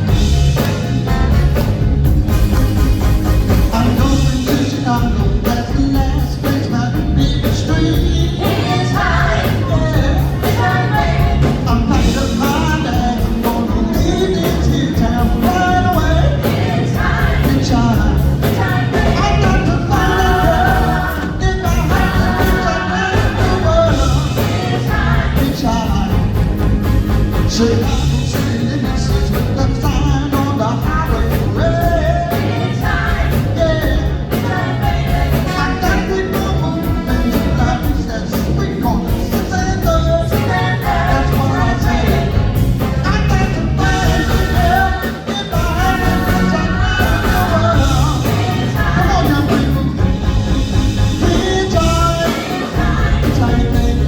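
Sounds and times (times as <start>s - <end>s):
bass guitar: 0.0s - 54.0s
drums: 0.0s - 54.0s
person singing: 3.7s - 26.6s, 27.5s - 50.2s, 51.2s - 54.0s.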